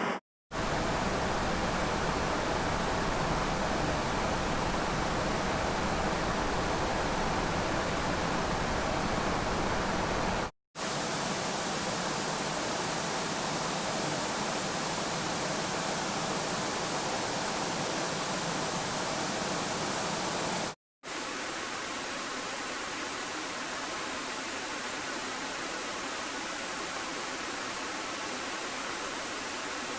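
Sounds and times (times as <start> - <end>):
television static hiss: 0.0 - 29.9.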